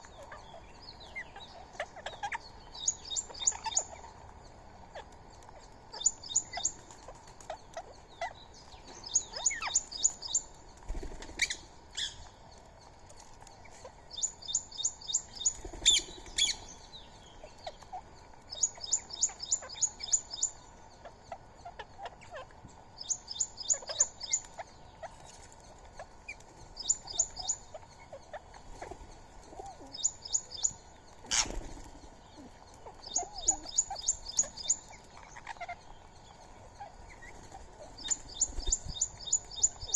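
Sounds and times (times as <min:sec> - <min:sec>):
high-pitched chirping calls: 0:00.0 - 0:39.9.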